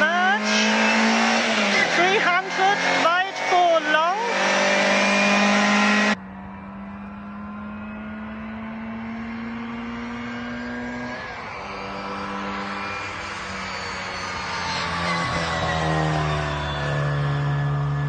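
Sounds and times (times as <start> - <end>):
rally car engine pulling hard: 0.0 - 18.0.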